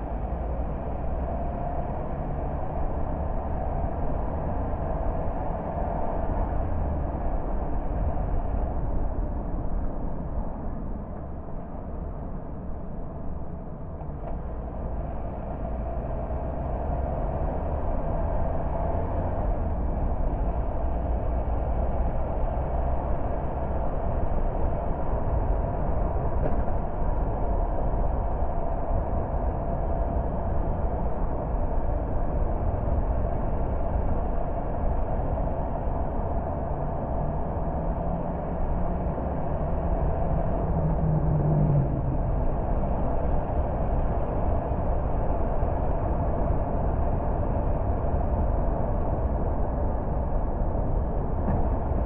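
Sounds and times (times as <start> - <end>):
car engine and road noise: 0.0 - 52.0
low hum: 0.0 - 52.0.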